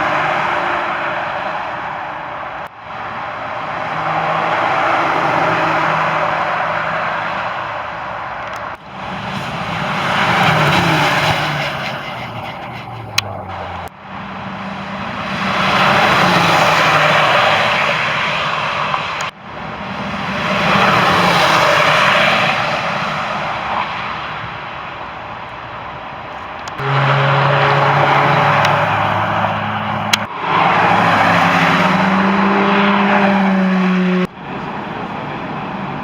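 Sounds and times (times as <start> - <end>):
sports cars passing at high speed: 0.0 - 36.0.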